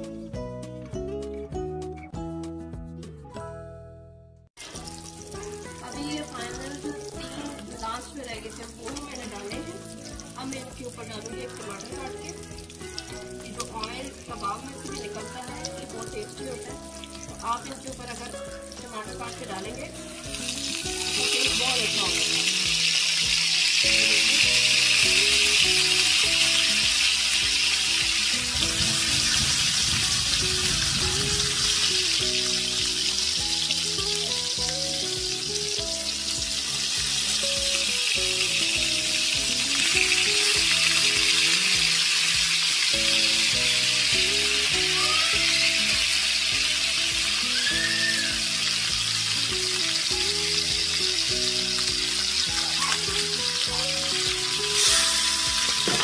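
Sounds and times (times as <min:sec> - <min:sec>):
instrumental background music: 0:00.0 - 0:56.0
meat sizzling in oil: 0:04.6 - 0:56.0.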